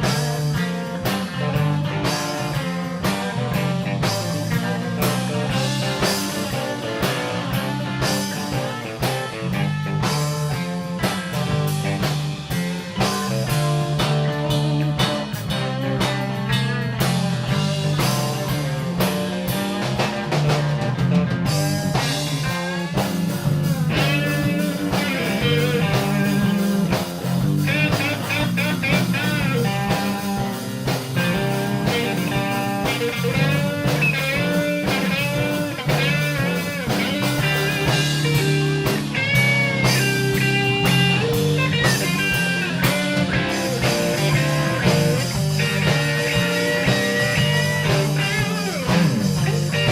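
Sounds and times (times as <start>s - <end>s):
bass: 0.0s - 49.9s
drum kit: 0.0s - 49.9s
lead electric guitar bending notes: 0.0s - 49.9s.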